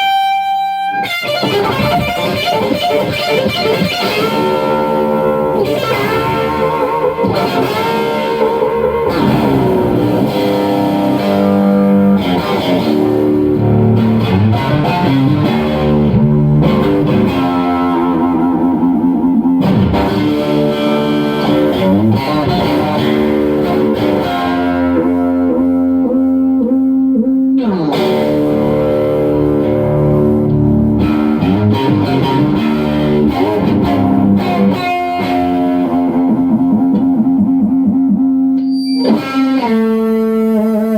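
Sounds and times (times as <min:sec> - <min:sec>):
electric guitar lead: 0:00.0 - 0:40.9.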